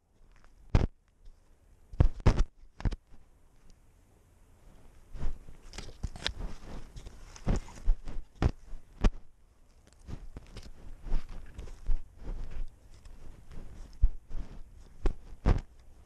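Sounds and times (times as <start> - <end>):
rustling of dry grass: 0.0 - 16.0.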